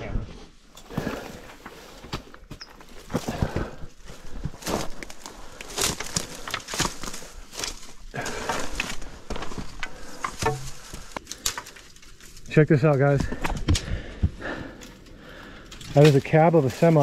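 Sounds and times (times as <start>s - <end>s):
footsteps on dirt and rock: 0.4s - 17.0s.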